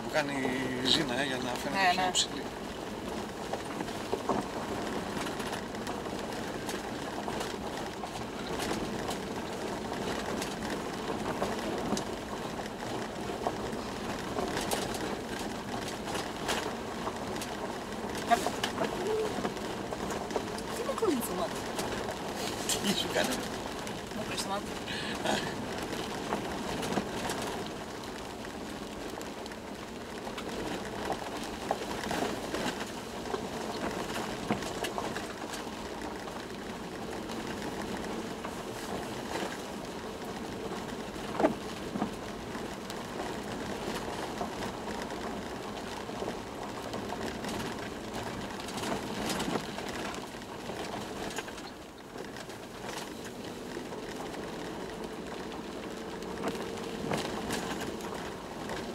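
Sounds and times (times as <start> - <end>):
engine and tyre noise: 0.0 - 58.9.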